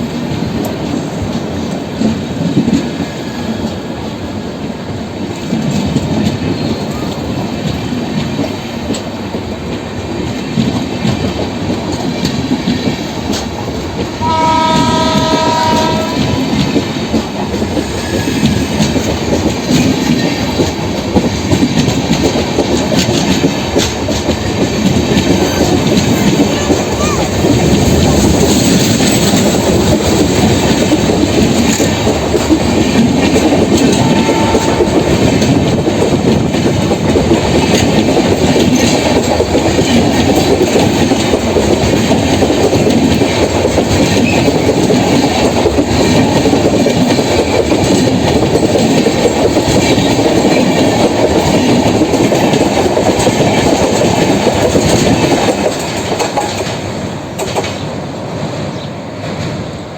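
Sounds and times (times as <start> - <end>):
wheels clicking over rail joints: 0.0 - 59.6
train coaches rumbling on track: 0.0 - 59.9.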